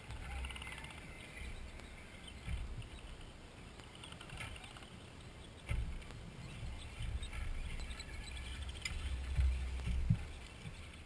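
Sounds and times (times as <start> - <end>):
faint high clicks and chirps: 0.0 - 11.0
wind rumbling on microphone: 0.0 - 11.0.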